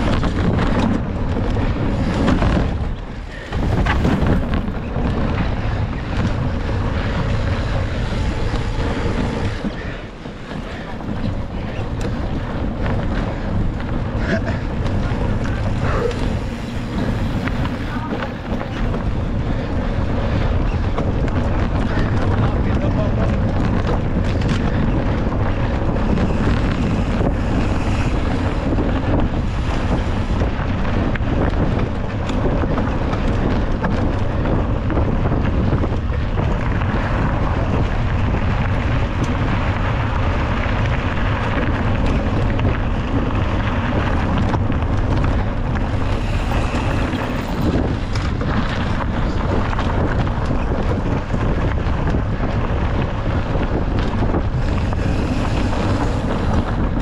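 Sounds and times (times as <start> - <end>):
bike rolling over trail: 0.0 - 57.0
wind buffeting microphone: 0.0 - 57.0.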